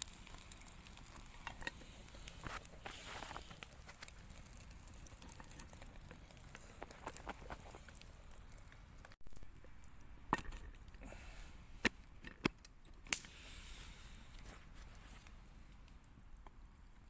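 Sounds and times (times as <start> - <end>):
campfire crackling: 0.0 - 17.0
fire pops: 0.0 - 17.0.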